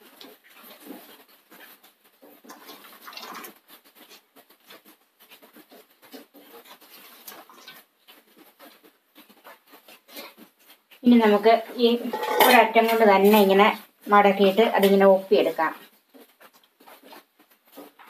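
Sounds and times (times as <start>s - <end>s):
fingers scratching and patting fabric: 0.0s - 18.0s.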